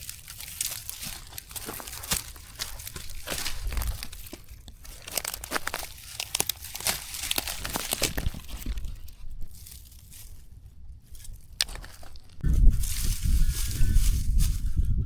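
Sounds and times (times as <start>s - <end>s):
dry twigs crackling and snapping: 0.0s - 14.8s.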